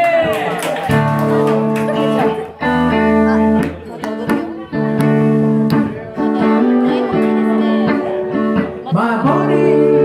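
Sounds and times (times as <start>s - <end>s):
bass guitar: 0.1s - 10.0s
electric guitars playing chords: 0.8s - 10.0s.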